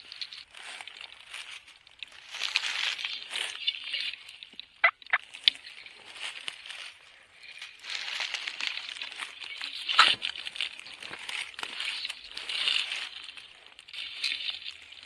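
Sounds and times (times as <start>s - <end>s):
dry leaves rustling and crunching: 0.0s - 15.0s.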